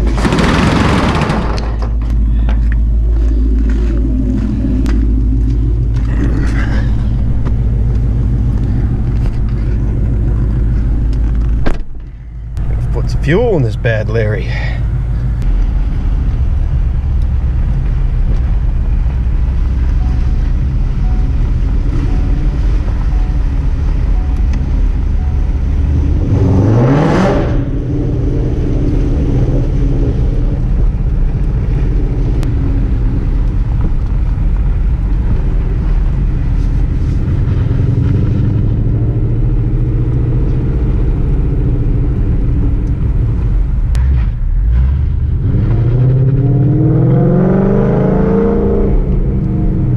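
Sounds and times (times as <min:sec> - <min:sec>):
car engine rumbling: 0:00.0 - 0:49.9.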